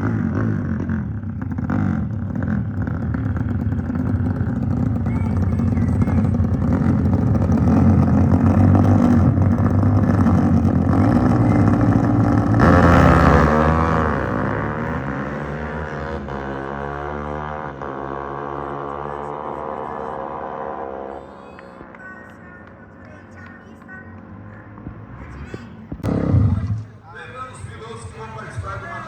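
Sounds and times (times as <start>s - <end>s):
motorcycle passing by: 0.0s - 26.9s
motorcycle engines revving: 0.0s - 29.0s.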